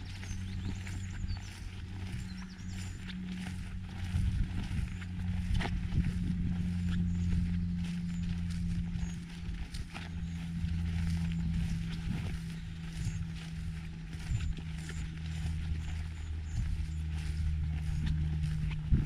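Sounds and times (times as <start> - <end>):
footsteps through long grass: 0.0 - 19.0
steady low drone: 0.0 - 19.0.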